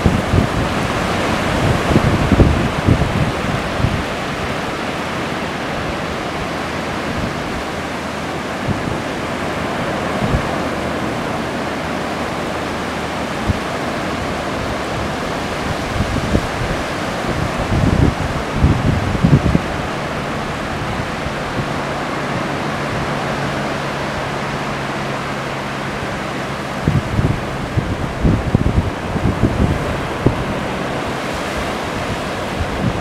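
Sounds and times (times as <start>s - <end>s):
waves breaking on beach: 0.0s - 33.0s
wind buffeting microphone: 0.0s - 33.0s.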